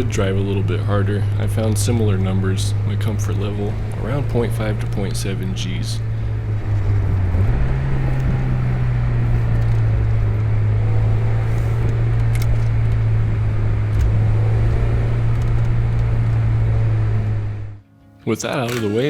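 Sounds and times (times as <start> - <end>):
road and tyre noise: 0.0 - 17.9
car engine droning: 0.0 - 18.2.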